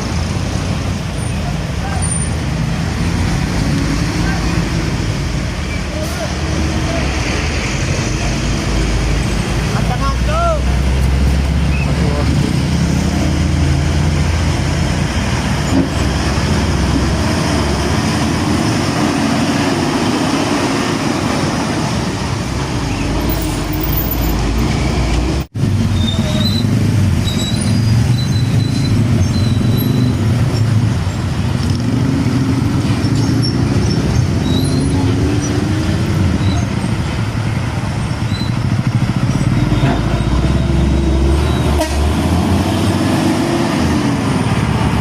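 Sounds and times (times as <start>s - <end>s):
heavy trucks passing: 0.0s - 45.0s
tyres on asphalt: 0.0s - 45.0s.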